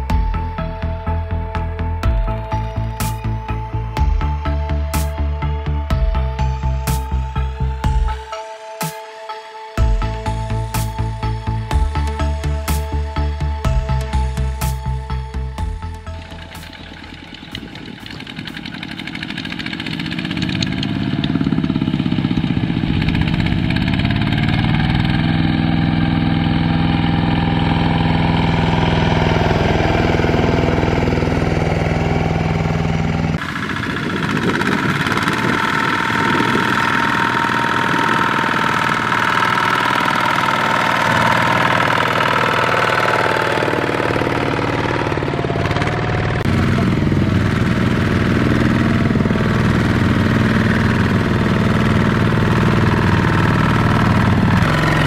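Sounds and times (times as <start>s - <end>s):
diesel engine running under load: 0.0s - 8.6s, 9.8s - 55.0s.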